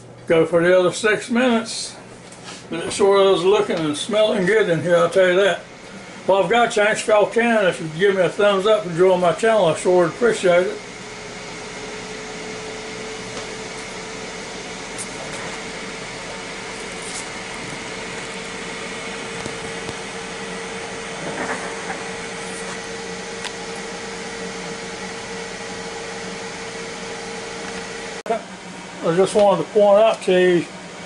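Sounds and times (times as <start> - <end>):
air fryer fan whirring: 0.0 - 31.0.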